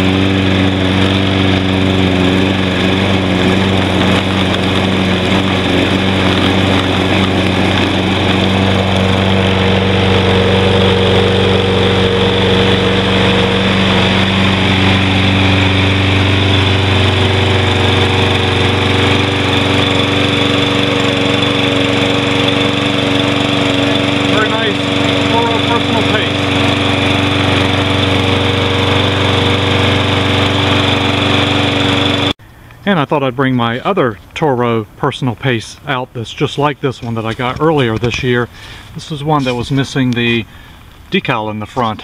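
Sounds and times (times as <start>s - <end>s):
lawn mower engine running: 0.0s - 42.0s.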